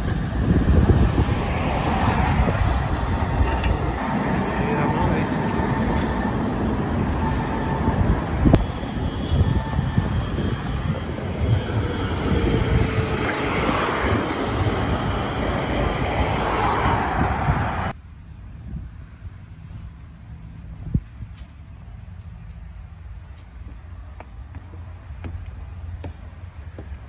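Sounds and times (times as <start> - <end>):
street traffic rumble and hiss: 0.0 - 27.0.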